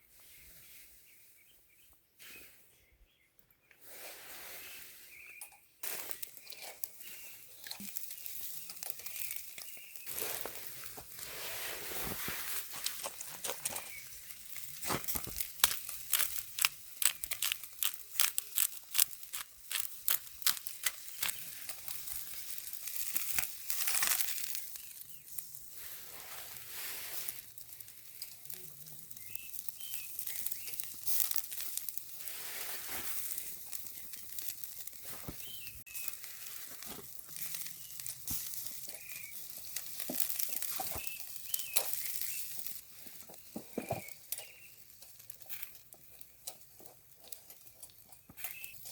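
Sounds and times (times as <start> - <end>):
wood fire crackling and popping: 5.4 - 48.9.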